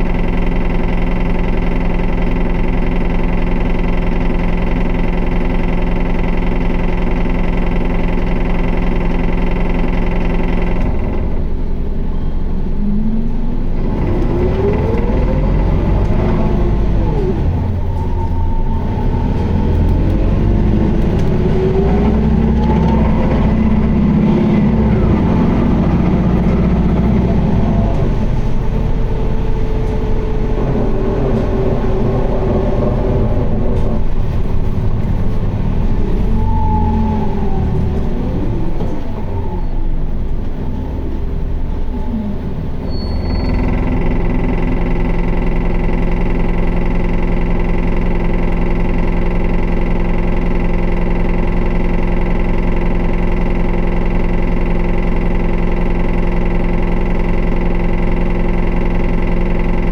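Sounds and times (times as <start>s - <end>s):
bus diesel engine: 0.0s - 59.9s.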